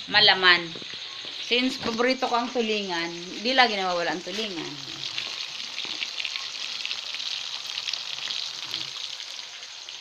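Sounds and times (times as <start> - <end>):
fish frying in hot oil: 0.1 - 10.0.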